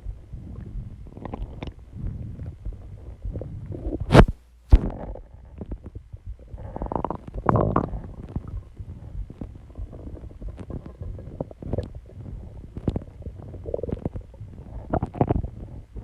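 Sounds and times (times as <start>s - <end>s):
stomach growling: 0.0s - 16.0s.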